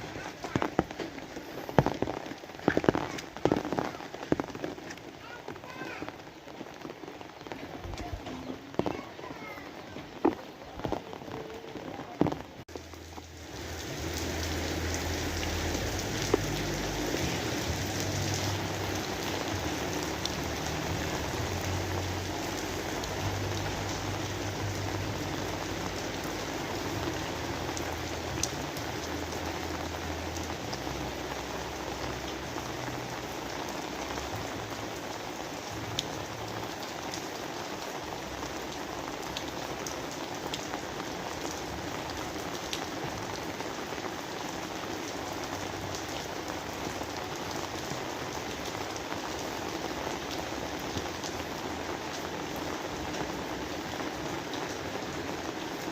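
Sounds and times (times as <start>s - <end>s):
rain drop clicks: 0.0s - 55.9s
steady rain hiss: 0.0s - 55.9s.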